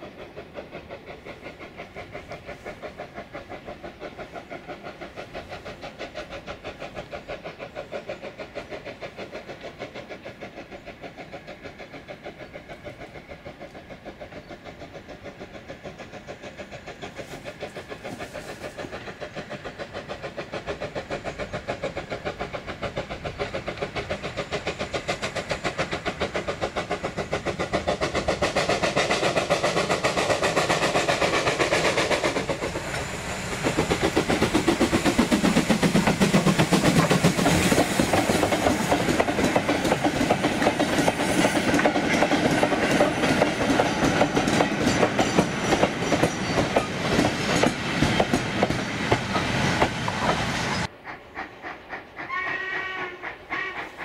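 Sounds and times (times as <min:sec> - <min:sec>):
steam locomotive exhaust beat: 0:00.0 - 0:54.0
wheels clacking over rail joints: 0:00.1 - 0:50.9.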